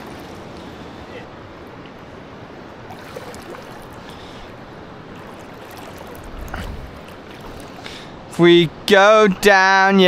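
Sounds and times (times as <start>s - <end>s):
river water flowing over rocks: 0.0s - 10.0s.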